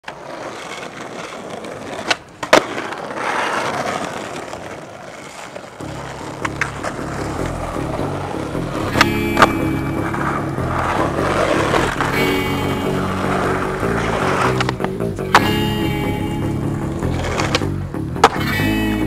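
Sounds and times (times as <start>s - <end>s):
skateboard clacks: 0.0s - 19.0s
skateboard wheels rolling on asphalt: 0.0s - 19.0s.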